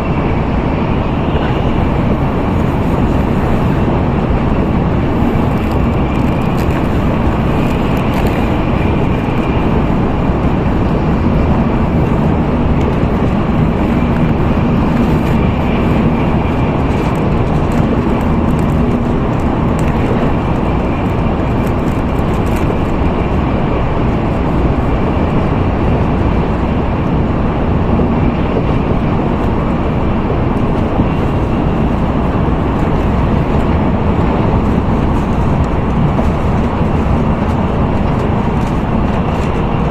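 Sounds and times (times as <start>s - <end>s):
train cabin rumble and hiss: 0.0s - 39.9s.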